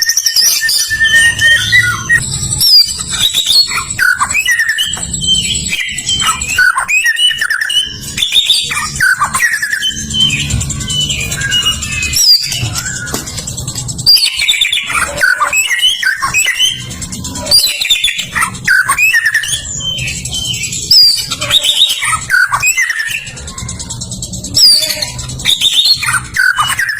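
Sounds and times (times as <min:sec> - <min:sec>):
bird singing rich whistles: 0:00.0 - 0:13.2, 0:14.0 - 0:23.4, 0:24.6 - 0:26.9.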